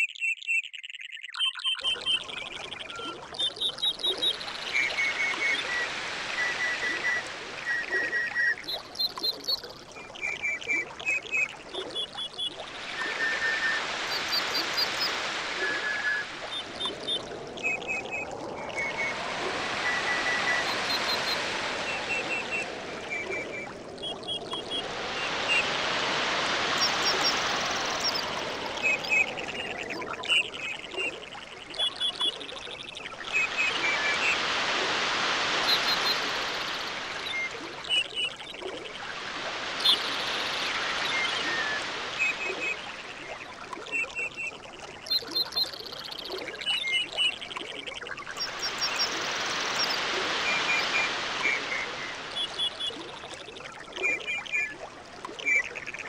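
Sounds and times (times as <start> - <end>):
water washing in swells: 1.9 - 56.0.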